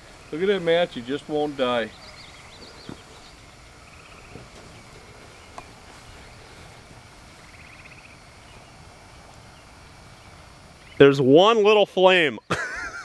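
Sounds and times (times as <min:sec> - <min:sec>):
faint bird calls: 0:00.0 - 0:11.2.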